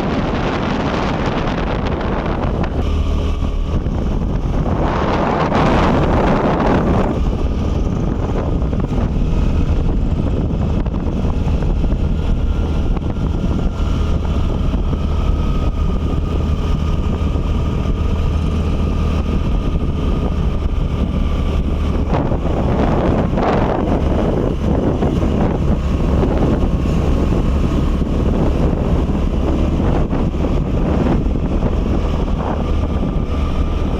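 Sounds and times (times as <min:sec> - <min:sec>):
low rumbling noise: 0:00.0 - 0:33.9
wind buffeting microphone: 0:00.0 - 0:33.9.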